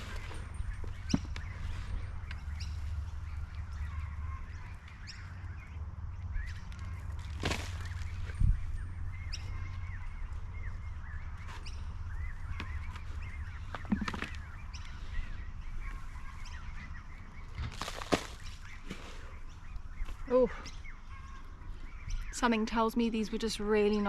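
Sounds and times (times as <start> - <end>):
birds chirping and calling: 0.0 - 24.0
steady low rumble: 0.0 - 24.0.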